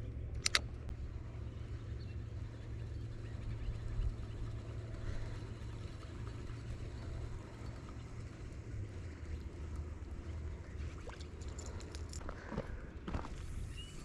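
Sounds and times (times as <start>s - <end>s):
low droning hum: 0.0s - 14.0s.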